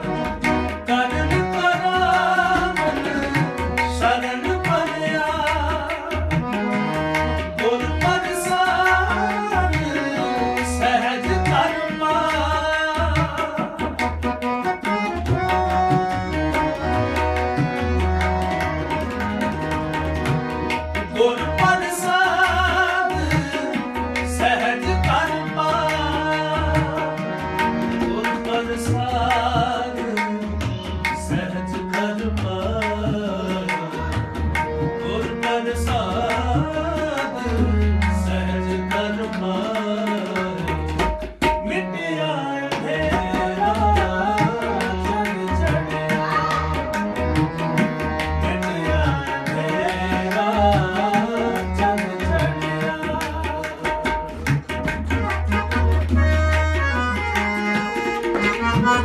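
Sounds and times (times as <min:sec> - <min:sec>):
harmonium melody: 0:00.0 - 0:59.0
tabla playing rhythm: 0:00.0 - 0:59.0.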